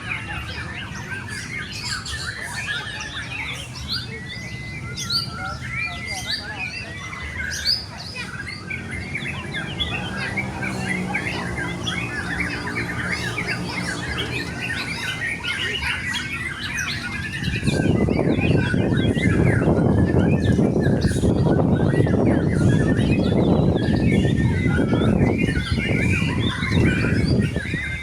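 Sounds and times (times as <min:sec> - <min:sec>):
birds chirping and whistling: 0:00.0 - 0:28.0.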